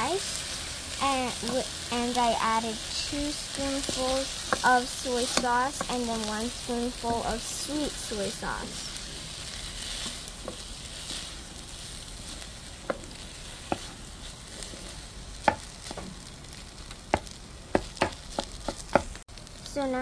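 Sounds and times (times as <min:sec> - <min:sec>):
fried rice sizzling in a pot: 0:00.0 - 0:20.0.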